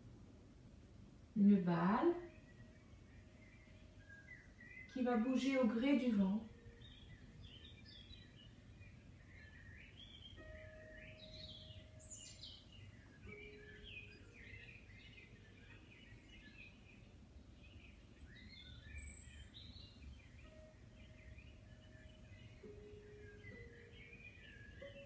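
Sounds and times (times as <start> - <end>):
relaxation music with soft held notes: 0.0 - 25.0
birds chirping: 1.4 - 25.0.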